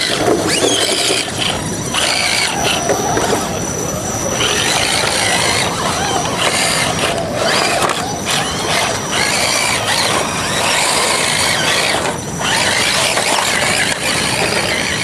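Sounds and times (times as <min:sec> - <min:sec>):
rc car electric motors whining: 0:00.0 - 0:15.0
wind: 0:00.0 - 0:15.0.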